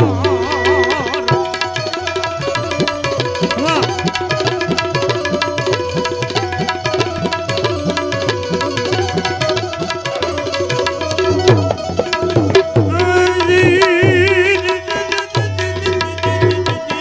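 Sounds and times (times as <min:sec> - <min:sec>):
tabla playing fast strokes: 0:00.0 - 0:17.0.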